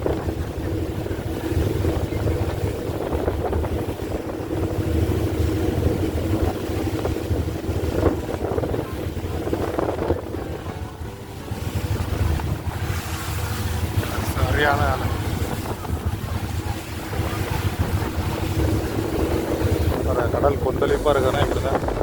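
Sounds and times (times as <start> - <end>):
ferry engine droning: 0.0 - 22.0
waves washing: 0.0 - 22.0
wind on the microphone: 0.0 - 22.0.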